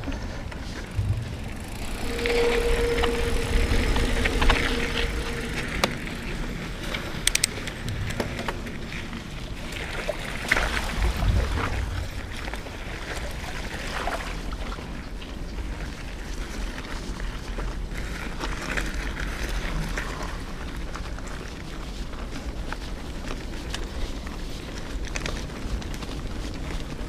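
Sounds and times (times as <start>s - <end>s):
bike clicking and rattling: 0.0s - 13.9s, 14.9s - 27.0s
bike tyres crunching on dirt: 0.0s - 27.0s
low wind rumble: 0.0s - 27.0s.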